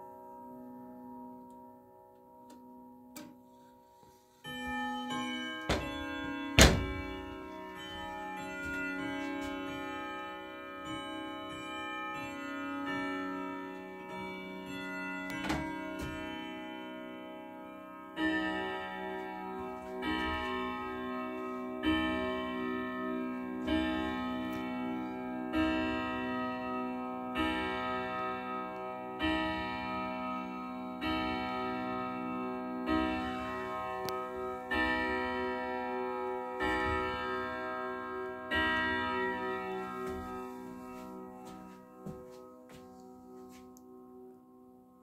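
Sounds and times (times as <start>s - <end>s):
floor clock striking: 4.4s - 43.0s.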